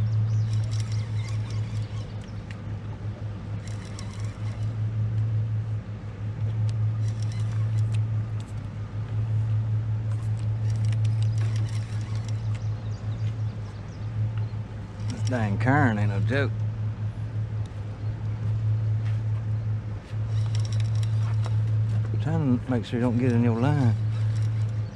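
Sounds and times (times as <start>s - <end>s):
boat motor humming: 0.0s - 24.9s.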